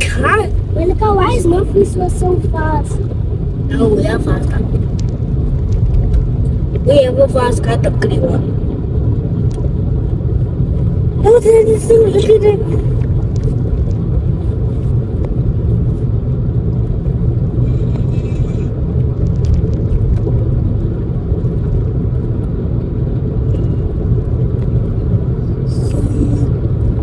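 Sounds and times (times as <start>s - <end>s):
car engine rumble: 0.0s - 27.0s
tyre road noise: 0.0s - 27.0s.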